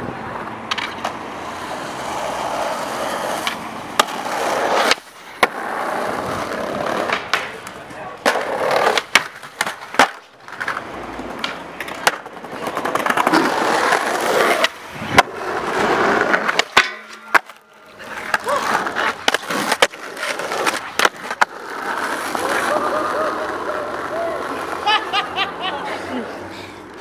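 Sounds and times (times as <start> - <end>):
skateboard wheels rolling: 0.0 - 27.0
skateboard clacks and knocks: 0.3 - 25.0.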